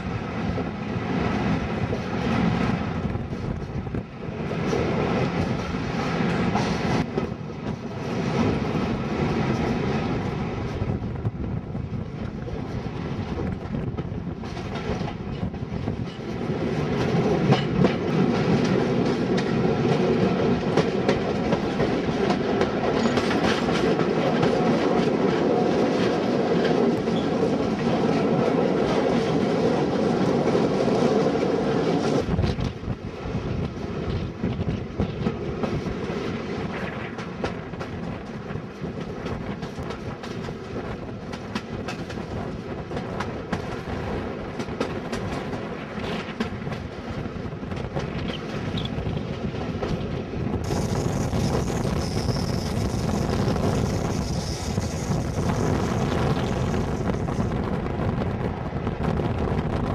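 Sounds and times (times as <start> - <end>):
train wheels clickety-clack on rails: 0.0 - 59.9.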